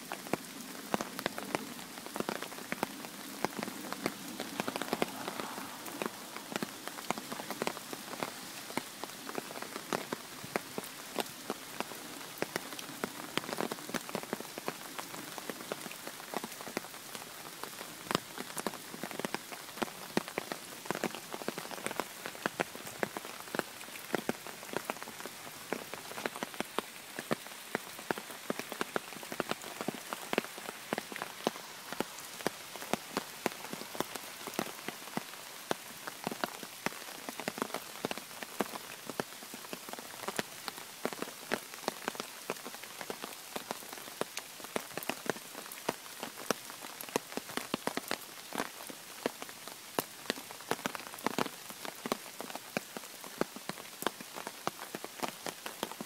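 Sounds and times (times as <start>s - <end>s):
raindrops ticking close by: 0.0s - 56.0s
steady rain falling: 0.0s - 56.0s.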